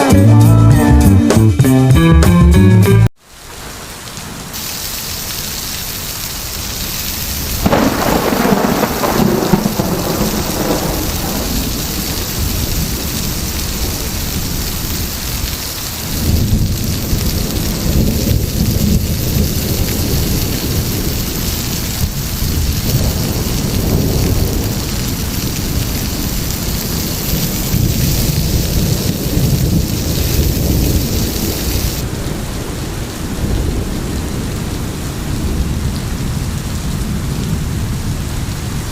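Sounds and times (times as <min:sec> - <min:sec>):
heavy rain falling: 0:03.2 - 0:38.9
rolling thunder: 0:07.3 - 0:38.9.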